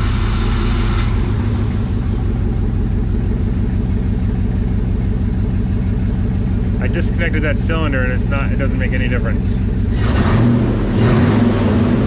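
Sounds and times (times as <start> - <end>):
car engine idling roughly: 0.0 - 10.5.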